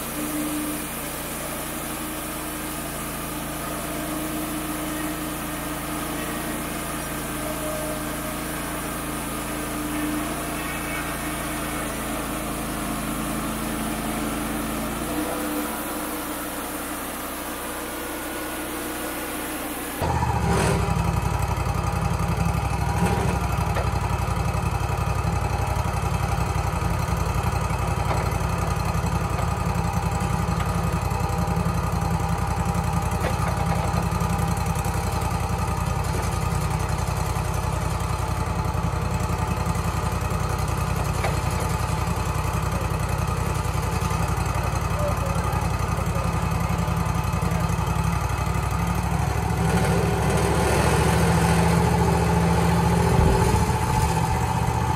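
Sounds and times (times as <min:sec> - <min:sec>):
sawmill engine running: 0:00.0 - 0:54.9.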